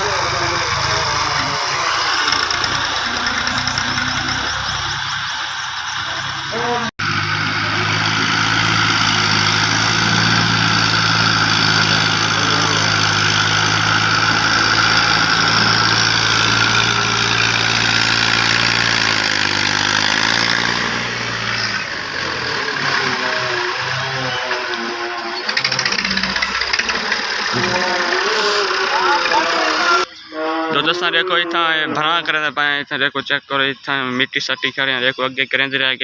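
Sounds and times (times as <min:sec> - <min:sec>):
tractor diesel engine running: 0:00.0 - 0:30.2.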